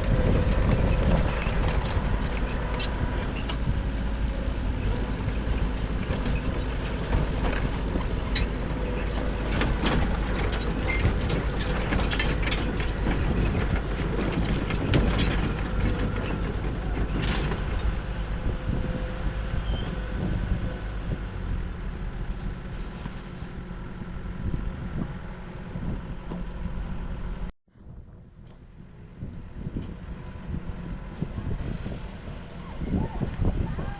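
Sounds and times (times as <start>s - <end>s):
crawler tracks clanking: 0.0s - 27.5s
diesel engine rumble: 0.0s - 33.9s.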